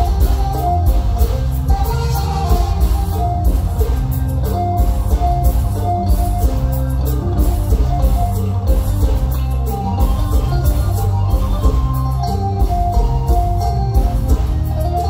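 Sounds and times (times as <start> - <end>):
bass: 0.0 - 15.0
drums: 0.0 - 15.0
repeating melodic notes: 0.0 - 15.0.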